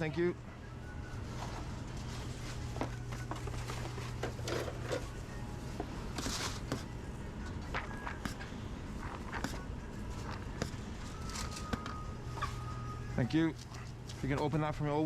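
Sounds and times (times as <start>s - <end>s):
kitchen equipment hum: 0.1s - 15.0s.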